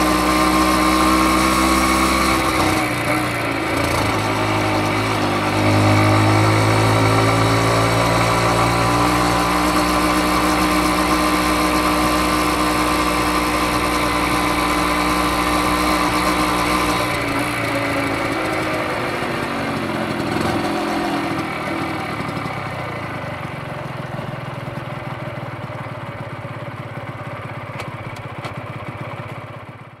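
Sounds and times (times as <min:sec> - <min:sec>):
two-stroke motorcycle engine running: 0:00.0 - 0:30.0.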